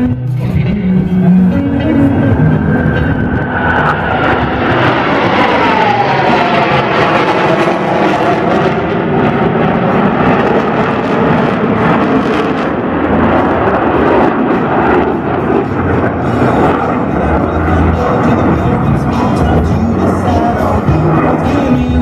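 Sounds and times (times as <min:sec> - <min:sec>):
jet engines flying past: 0:00.0 - 0:22.0.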